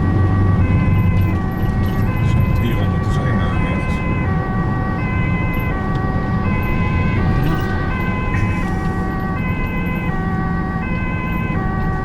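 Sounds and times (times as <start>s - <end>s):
ambulance two-tone siren: 0.0s - 12.0s
vehicle rumble on road: 0.0s - 12.0s.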